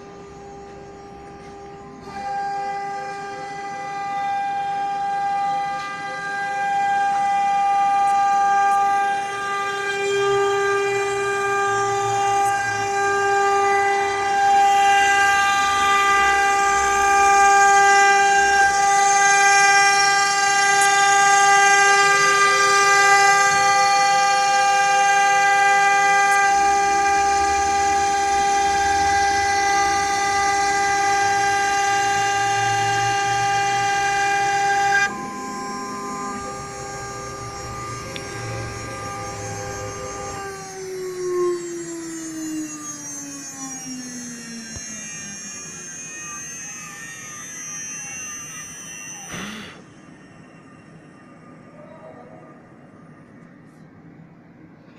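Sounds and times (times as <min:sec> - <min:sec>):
router spindle whining: 0:00.0 - 0:51.8.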